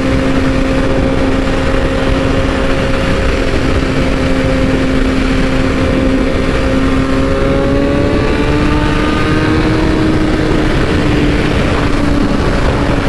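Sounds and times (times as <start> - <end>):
motorcycle engine cruising: 0.0 - 13.0
wind noise: 0.0 - 13.0.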